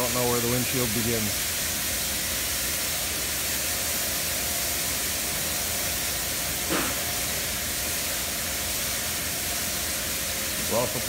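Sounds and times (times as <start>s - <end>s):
spray hissing on car body: 0.0s - 11.0s.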